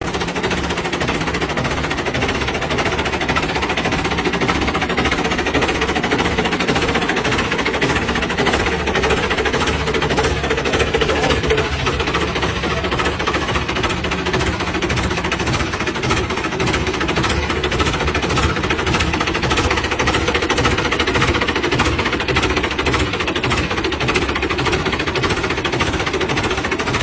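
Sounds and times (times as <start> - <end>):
tractor engine knocking: 0.0 - 27.0.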